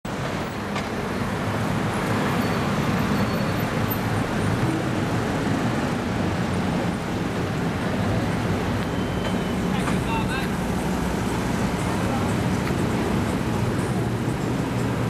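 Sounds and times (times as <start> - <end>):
tyre and road noise: 0.1 - 15.0.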